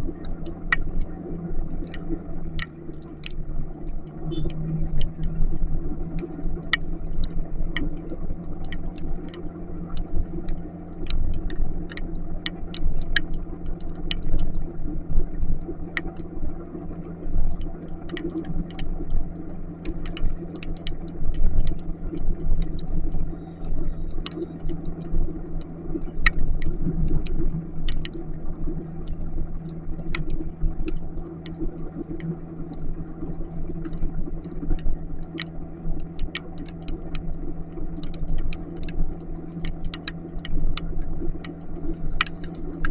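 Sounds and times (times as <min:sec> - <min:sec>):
raindrops ticking on microphone: 0:00.0 - 0:42.9
road rumble: 0:00.0 - 0:42.9.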